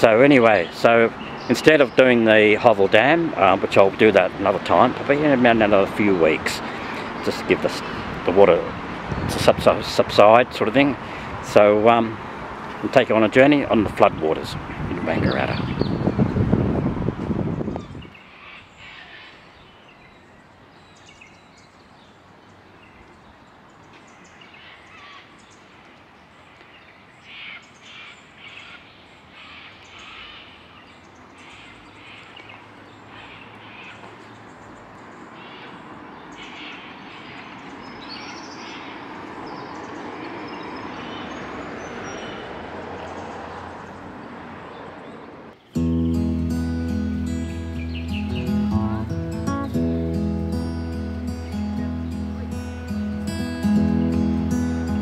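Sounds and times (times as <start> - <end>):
birds calling: 0.0 - 12.2, 12.9 - 16.6, 17.5 - 55.0.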